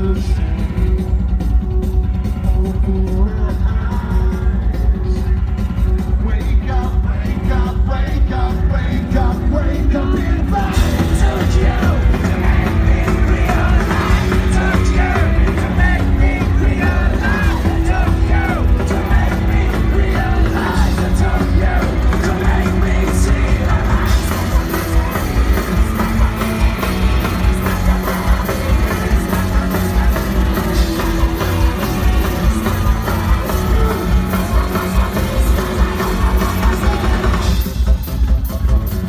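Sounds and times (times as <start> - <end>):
live rock band playing: 0.0 - 39.0
steady drum beat: 0.0 - 39.0
person singing: 2.4 - 37.7.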